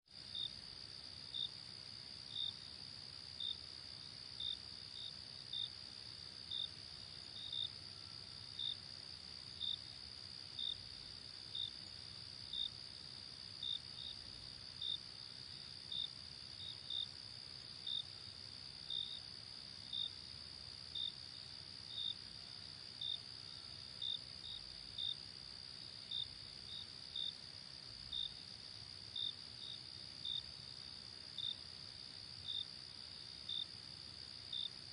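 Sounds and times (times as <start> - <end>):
cricket chirps: 0.1 - 34.9
faint low hiss: 0.1 - 34.9.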